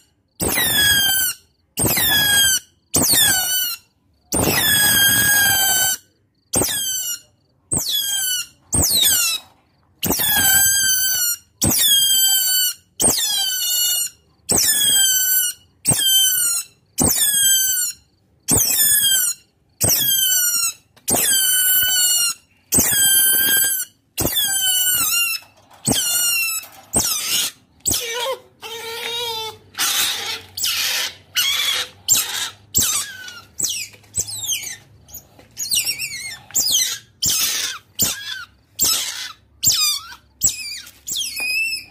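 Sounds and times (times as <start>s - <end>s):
otter squeaking calls: 0.4s - 41.9s.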